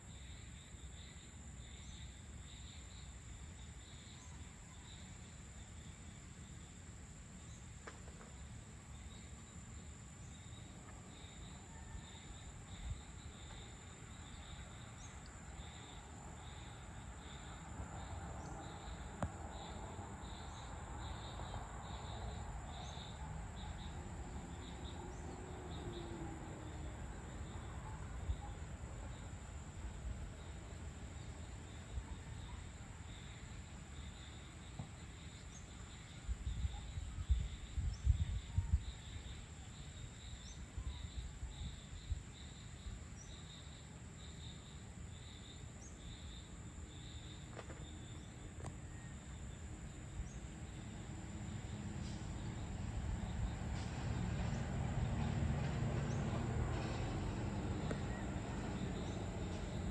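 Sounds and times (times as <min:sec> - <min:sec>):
cricket chirping: 0:00.0 - 0:59.9
crickets droning: 0:00.0 - 0:59.9.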